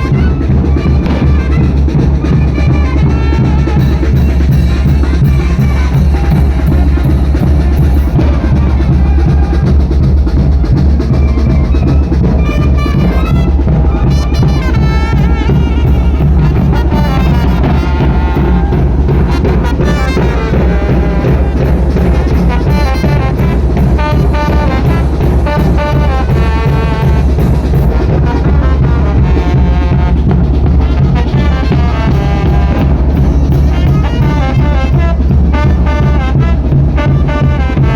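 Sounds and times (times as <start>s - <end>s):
horn melody: 0.0s - 10.0s, 11.2s - 37.9s
bass drum and snare: 0.0s - 37.9s
brass band playing: 0.0s - 37.9s.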